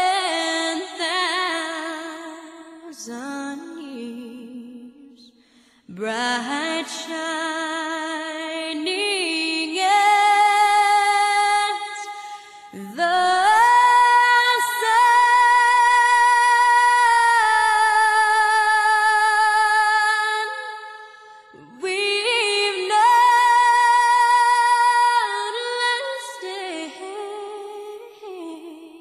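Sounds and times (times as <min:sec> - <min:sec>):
woman singing with vibrato: 0:00.0 - 0:05.3, 0:05.9 - 0:29.0.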